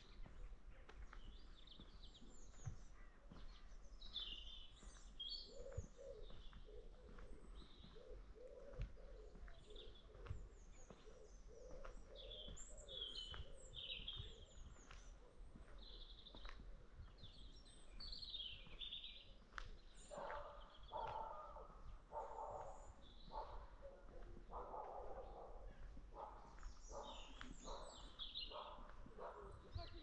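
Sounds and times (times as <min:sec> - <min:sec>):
birds chirping and twittering: 0:00.0 - 0:30.0.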